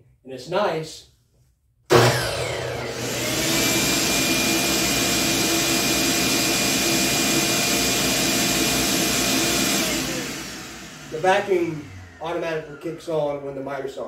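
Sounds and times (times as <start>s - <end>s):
miter saw motor running: 1.9s - 13.4s
shop vacuum running: 1.9s - 14.0s.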